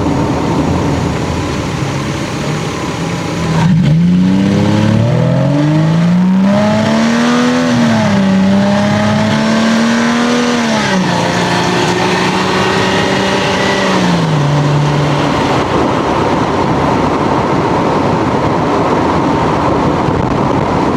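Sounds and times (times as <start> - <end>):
car engine and exhaust: 0.0 - 20.9
road and wind noise: 0.0 - 20.9.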